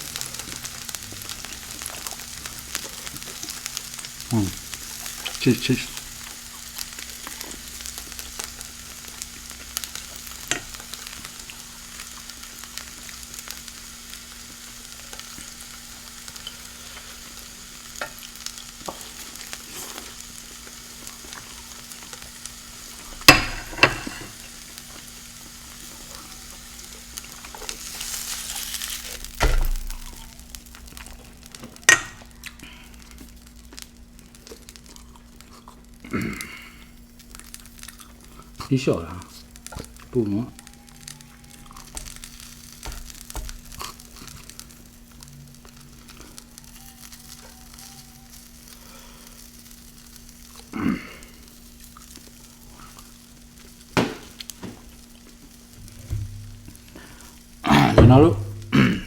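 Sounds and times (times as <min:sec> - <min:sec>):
food sizzling: 0:00.0 - 0:59.0.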